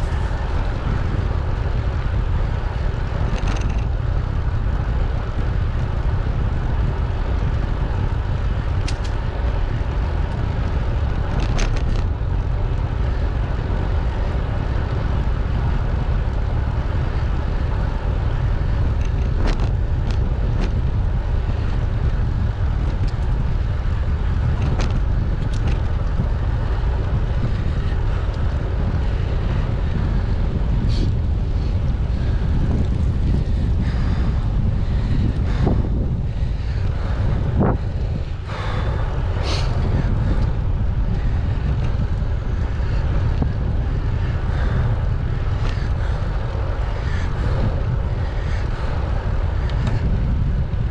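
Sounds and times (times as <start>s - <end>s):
road and tyre noise: 0.0s - 50.9s
wind rumble on microphone: 0.0s - 50.9s.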